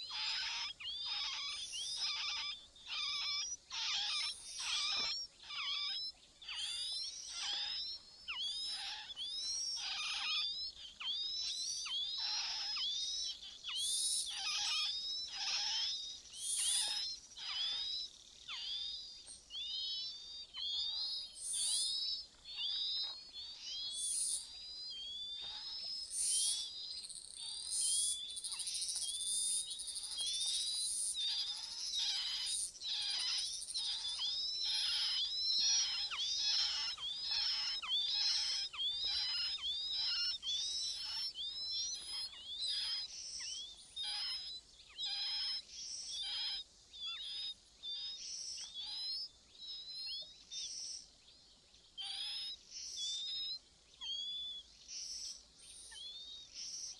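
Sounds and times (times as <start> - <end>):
nestlings begging chirps: 0.0 - 56.9.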